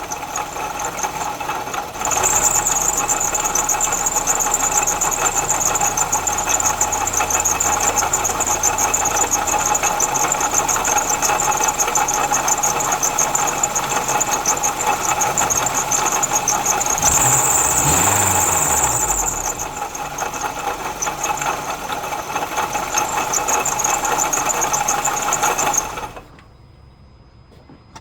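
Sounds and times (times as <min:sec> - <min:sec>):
car engine ticking: 0:00.0 - 0:26.5
car engine revving: 0:02.0 - 0:26.2.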